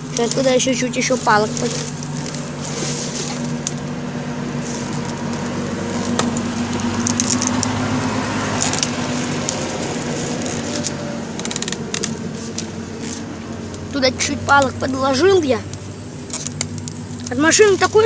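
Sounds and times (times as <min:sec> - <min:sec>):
car engine humming: 0:00.0 - 0:18.0
fire crackling and snapping: 0:00.0 - 0:18.0
sticks laid on campfire: 0:00.1 - 0:07.8, 0:08.5 - 0:14.0, 0:15.6 - 0:17.8.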